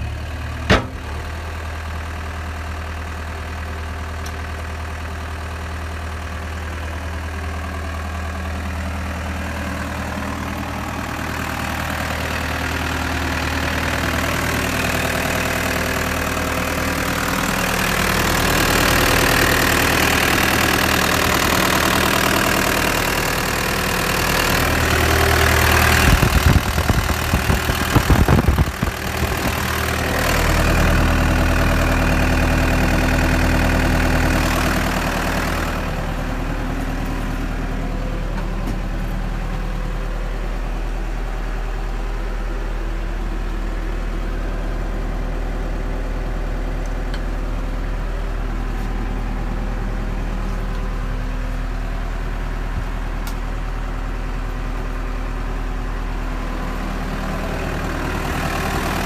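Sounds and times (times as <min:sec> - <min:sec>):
diesel engine idling: 0:00.0 - 0:59.0
loud irregular buffeting rumble: 0:00.0 - 0:59.0.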